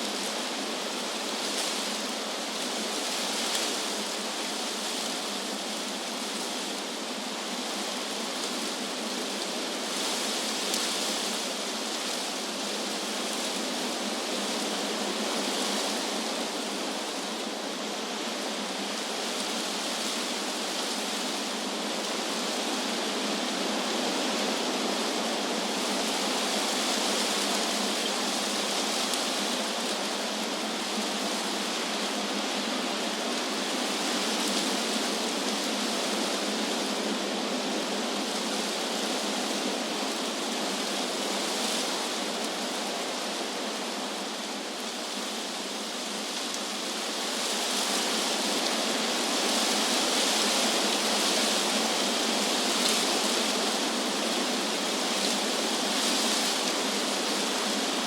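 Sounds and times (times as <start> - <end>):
wind rushing through leaves: 0.0 - 58.0.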